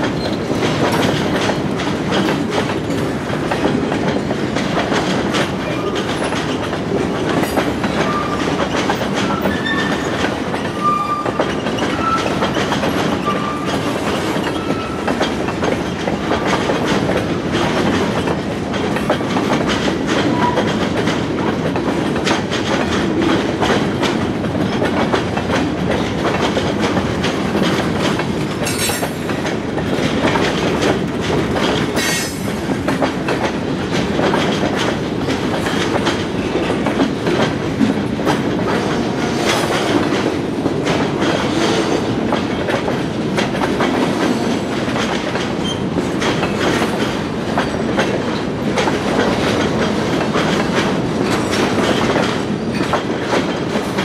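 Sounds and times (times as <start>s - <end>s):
freight cars rumbling on rails: 0.0s - 54.0s.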